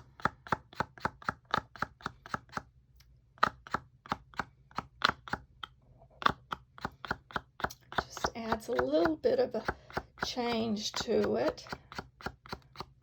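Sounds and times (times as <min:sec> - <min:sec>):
marker flicking ink taps: 0:00.0 - 0:02.7, 0:03.4 - 0:13.0.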